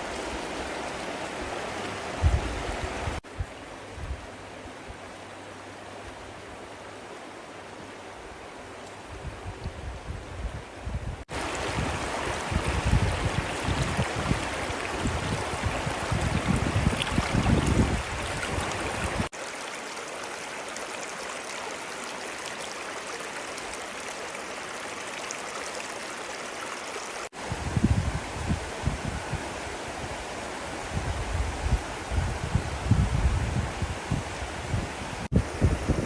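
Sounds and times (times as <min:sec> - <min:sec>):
river water rushing: 0:00.0 - 0:09.2, 0:11.2 - 0:36.0.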